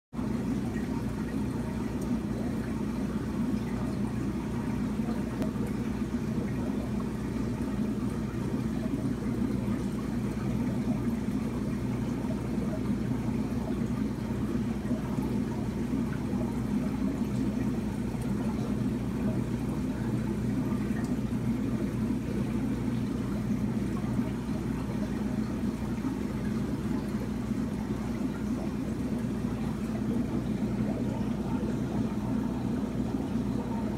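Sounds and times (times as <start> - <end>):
aquarium equipment humming: 0.1 - 33.9.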